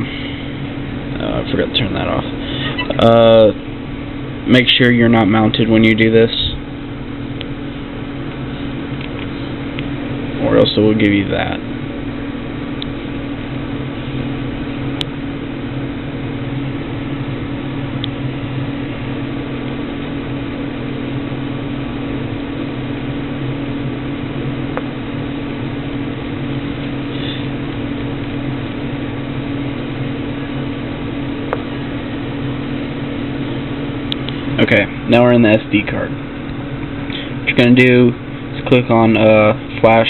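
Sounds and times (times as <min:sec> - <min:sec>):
low hum with hiss: 0:00.0 - 0:40.0.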